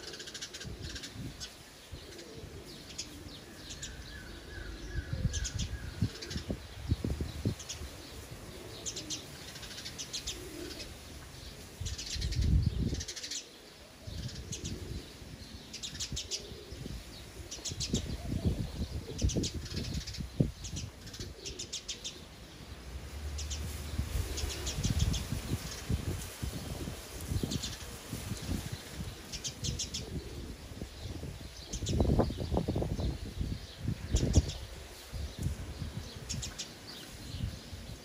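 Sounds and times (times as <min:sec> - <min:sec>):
sparrows chirping: 0:00.0 - 0:38.0.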